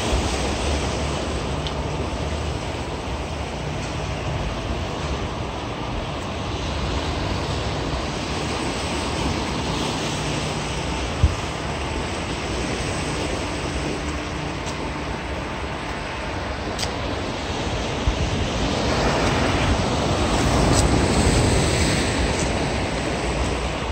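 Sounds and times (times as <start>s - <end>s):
surf on rocky shore: 0.0s - 23.9s
wind rumbling on microphone: 0.0s - 23.9s.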